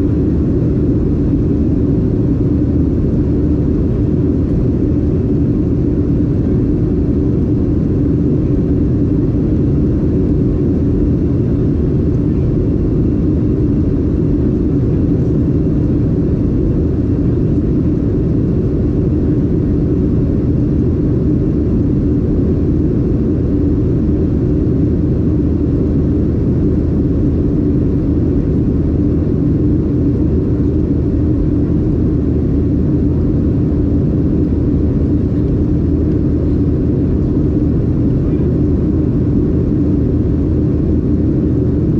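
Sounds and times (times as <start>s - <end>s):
jet engine roar in cabin: 0.0s - 41.9s.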